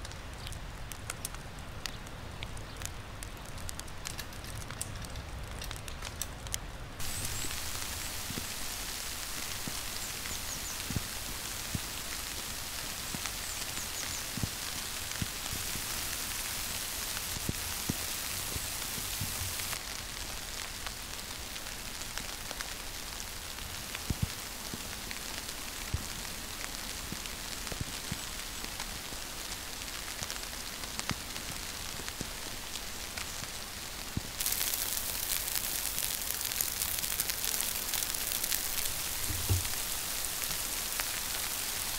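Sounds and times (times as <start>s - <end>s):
wet snow falling on fabric: 7.0s - 41.9s.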